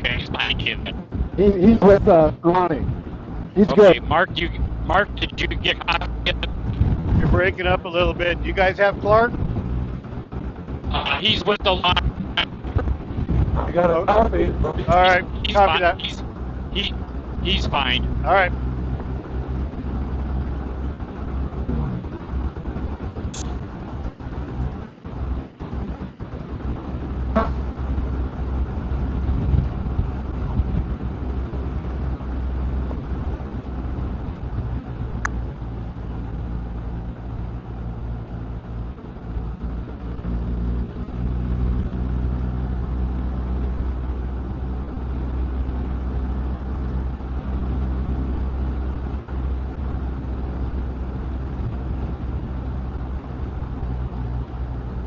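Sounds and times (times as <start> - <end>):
motorcycle engine hum: 0.0 - 55.0
wind and road noise: 0.0 - 55.0.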